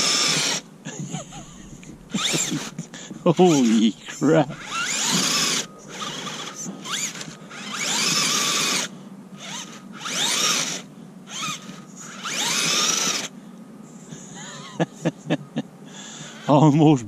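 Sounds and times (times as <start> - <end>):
rc car electric motor whining: 0.0 - 14.3, 16.0 - 16.7.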